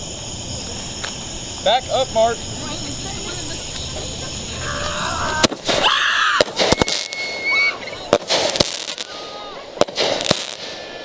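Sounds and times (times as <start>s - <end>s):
firework whistle: 0.0s - 11.0s
fireworks cracking and popping: 0.0s - 11.0s.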